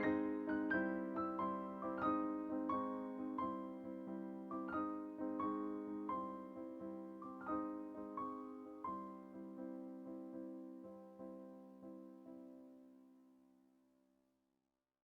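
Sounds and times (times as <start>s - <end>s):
soft solo piano melody: 0.0s - 13.4s.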